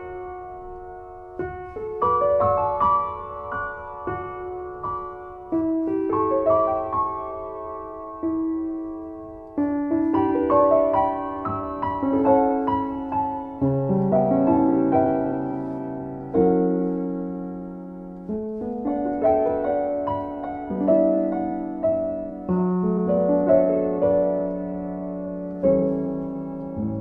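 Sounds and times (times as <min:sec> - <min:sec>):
slow solo piano piece: 0:00.0 - 0:27.0.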